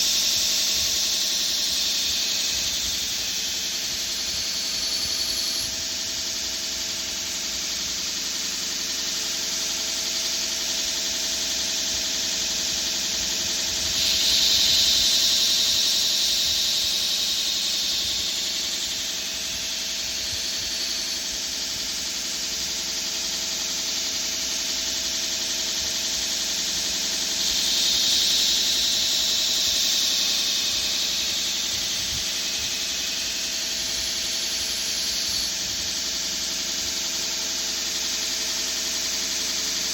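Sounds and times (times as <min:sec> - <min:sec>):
grinder grinding knife blade: 0:00.0 - 0:08.1, 0:13.1 - 0:22.9, 0:25.6 - 0:39.7.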